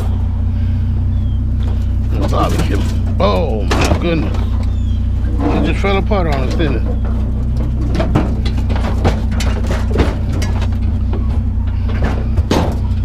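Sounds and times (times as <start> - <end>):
low engine hum: 0.0 - 13.0
sheet metal clanking: 2.1 - 13.0.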